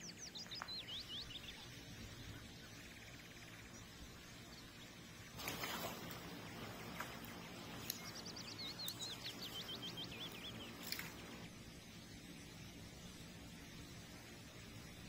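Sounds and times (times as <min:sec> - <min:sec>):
songbird chirps and trills: 0:00.0 - 0:15.0.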